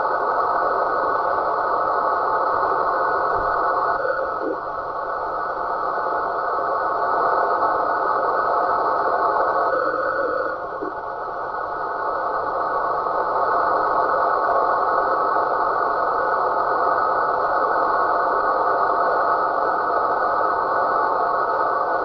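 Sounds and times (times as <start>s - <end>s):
faint steady tones: 0.0s - 22.0s
radio static hiss: 0.0s - 22.0s.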